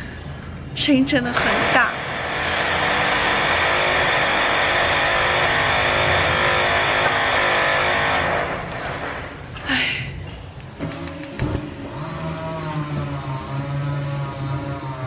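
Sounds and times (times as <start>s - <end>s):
power tool running: 1.3s - 9.5s, 10.9s - 15.0s.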